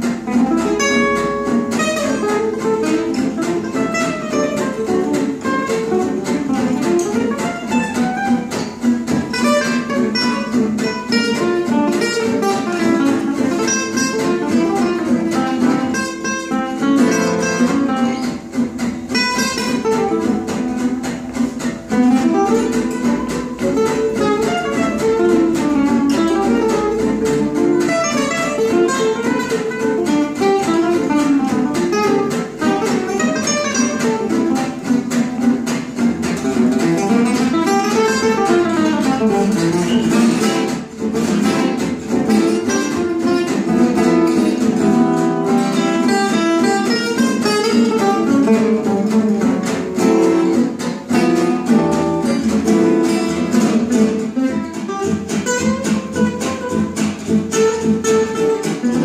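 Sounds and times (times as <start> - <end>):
acoustic guitars playing swing: 0.0 - 59.0.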